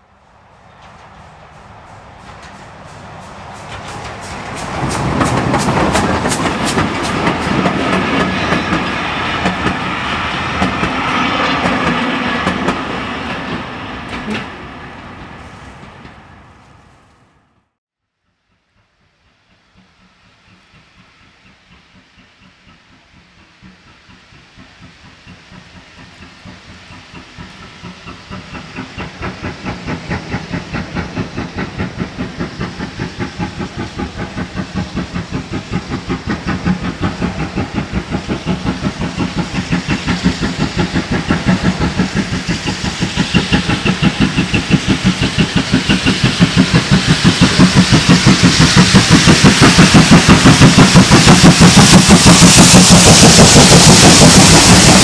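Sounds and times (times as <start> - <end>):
steam locomotive exhaust beats: 0.0 - 16.8, 18.3 - 55.0.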